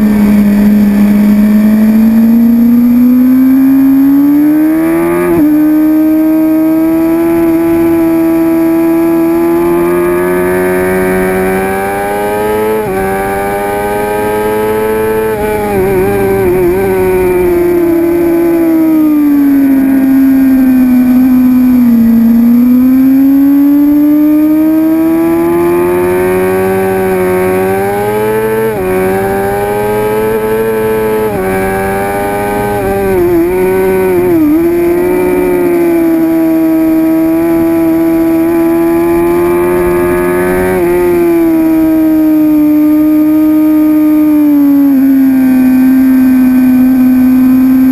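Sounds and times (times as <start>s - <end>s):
motorcycle engine running hard: 0.0s - 47.9s.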